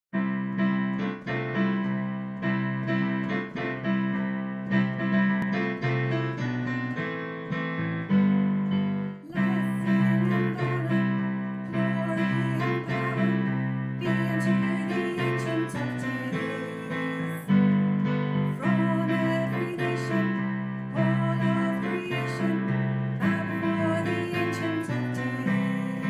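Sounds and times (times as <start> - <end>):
piano and keyboard chords: 0.0 - 26.0.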